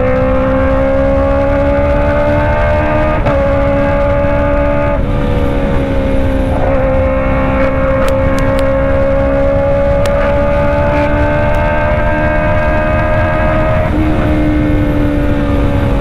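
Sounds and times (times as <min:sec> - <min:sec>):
motorcycle engine high revs wail: 0:00.0 - 0:16.0.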